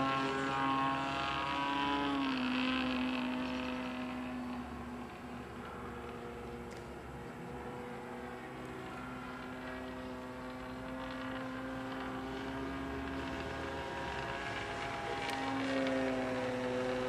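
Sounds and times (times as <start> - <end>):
model plane engine drone: 0.0 - 17.0.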